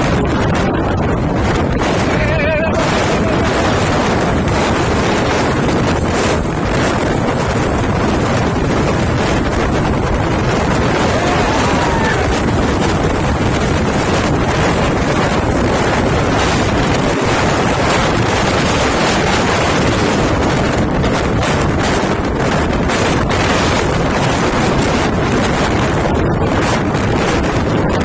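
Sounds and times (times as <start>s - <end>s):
moving truck rumble: 0.0s - 28.0s
wind buffeting microphone: 0.0s - 28.0s.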